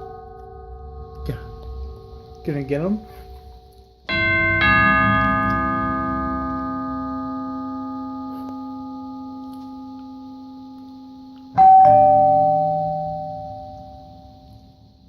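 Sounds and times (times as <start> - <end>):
two-note doorbell chime: 0.0 - 14.9.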